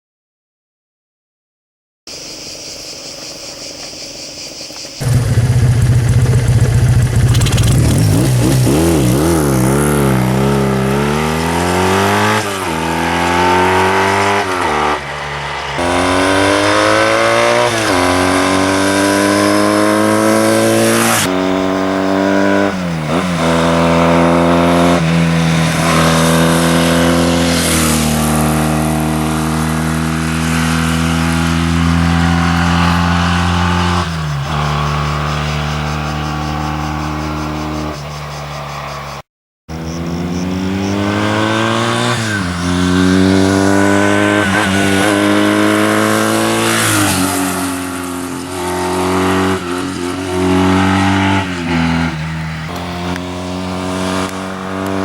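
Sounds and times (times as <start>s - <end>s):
motorcycle engine accelerating: 4.8s - 55.0s.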